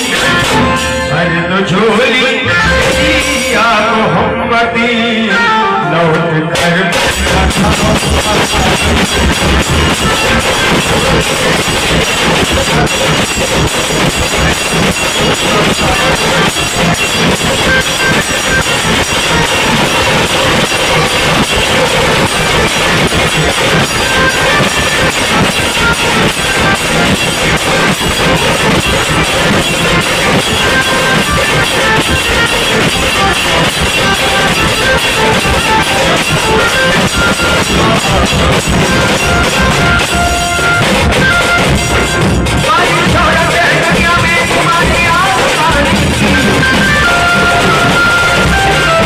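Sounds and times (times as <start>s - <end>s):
qawwali music: 0.0s - 49.0s
loud rattling rumble: 6.7s - 49.0s.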